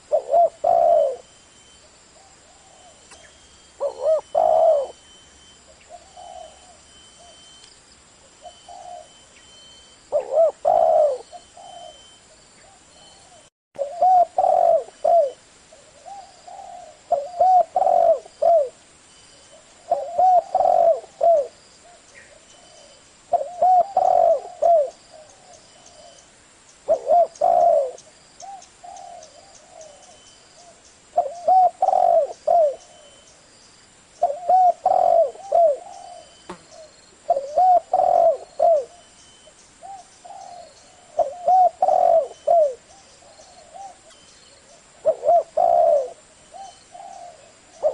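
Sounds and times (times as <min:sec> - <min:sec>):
dove cooing: 0:00.0 - 0:01.3, 0:02.1 - 0:07.5, 0:08.2 - 0:09.2, 0:10.1 - 0:18.8, 0:19.5 - 0:26.2, 0:26.9 - 0:33.3, 0:34.2 - 0:47.9.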